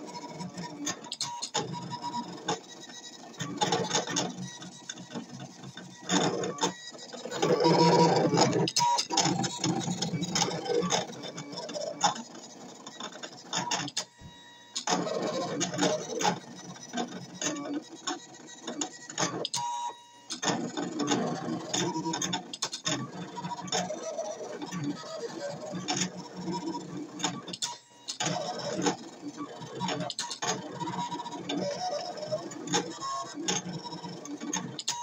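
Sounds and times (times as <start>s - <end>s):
cutting machine motors whirring: 0.0s - 35.0s.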